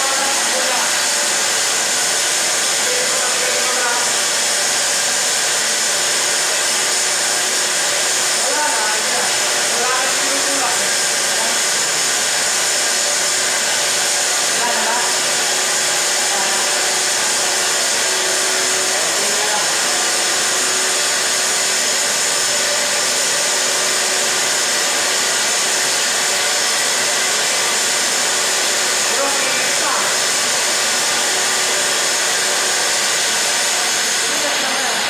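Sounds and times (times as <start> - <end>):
motor whirring: 0.0 - 35.0.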